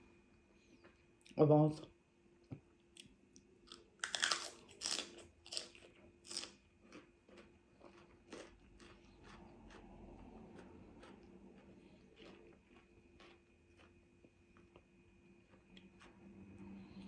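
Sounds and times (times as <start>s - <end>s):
crunching and chewing celery: 2.9s - 17.0s.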